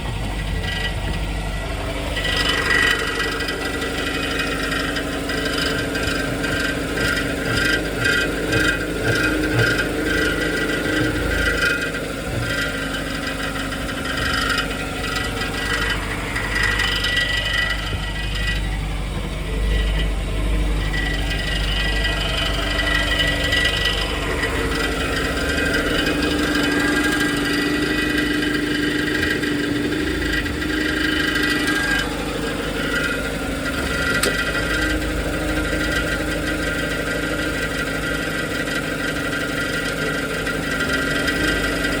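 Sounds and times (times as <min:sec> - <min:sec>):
car engine idling: 0:00.0 - 0:42.0
metallic rattle: 0:00.0 - 0:42.0.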